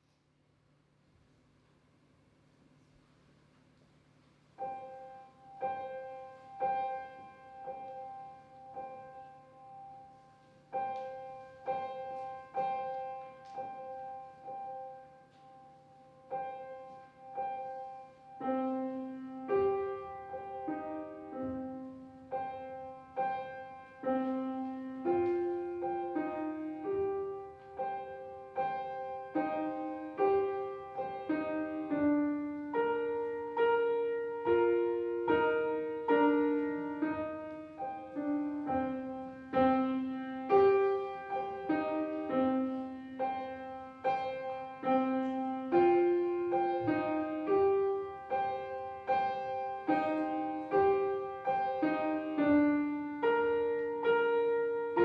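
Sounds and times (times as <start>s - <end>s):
solo piano: 2.4s - 55.0s.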